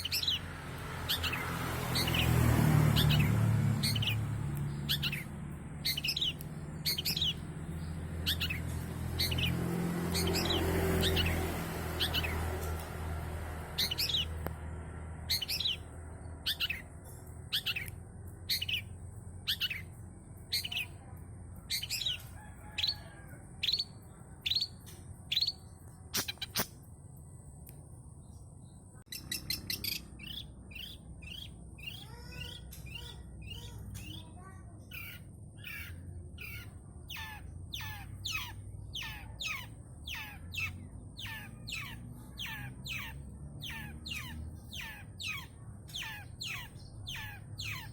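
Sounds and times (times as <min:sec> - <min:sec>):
shrike singing mimicked calls: 0:00.0 - 0:12.8, 0:13.7 - 0:14.4, 0:15.2 - 0:16.9, 0:17.5 - 0:26.6, 0:29.1 - 0:47.9.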